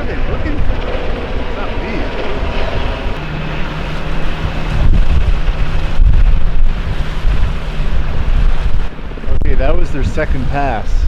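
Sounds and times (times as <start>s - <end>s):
helicopter flying low: 0.0s - 11.0s
wind rumble on microphone: 0.0s - 11.0s.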